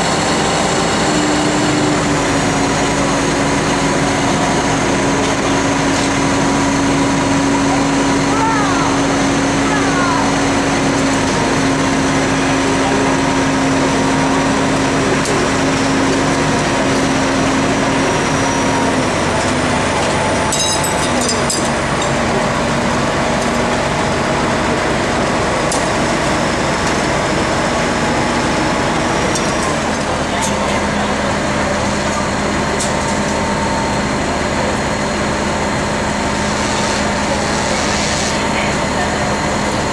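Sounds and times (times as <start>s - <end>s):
city street noise: 0.0s - 39.9s
heavy crane engine running: 0.0s - 39.9s.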